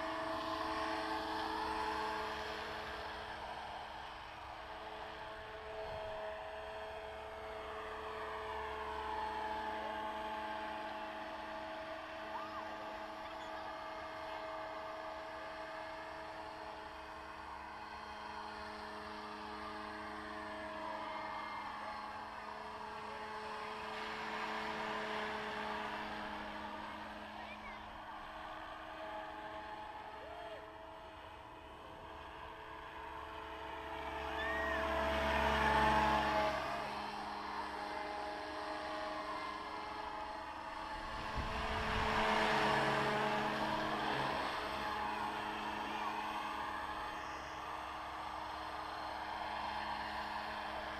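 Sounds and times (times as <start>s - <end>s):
model helicopter whine: 0.0s - 50.9s.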